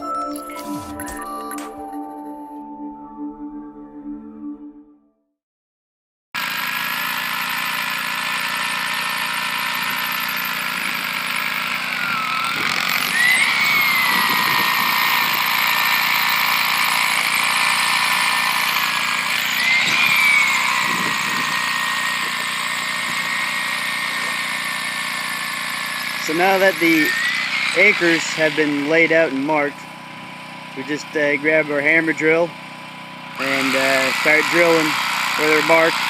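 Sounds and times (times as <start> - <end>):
engine running with high whine: 6.4 - 36.0.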